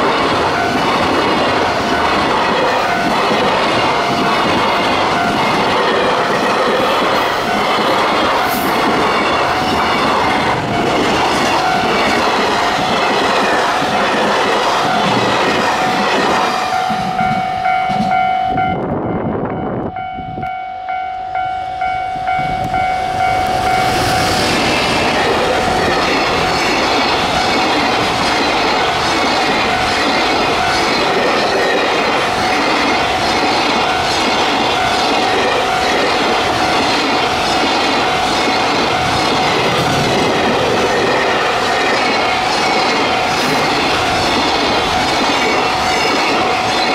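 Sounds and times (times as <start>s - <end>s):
freight train wagons rumbling: 0.0s - 20.4s, 21.3s - 46.9s
steady high tone: 0.0s - 46.9s.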